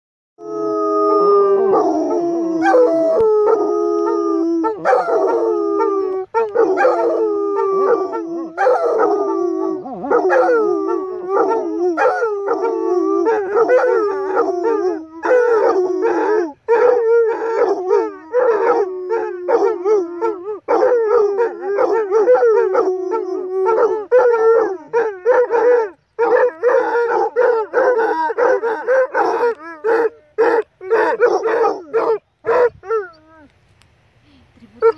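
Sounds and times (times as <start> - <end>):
dogs howling: 0.4 - 33.5.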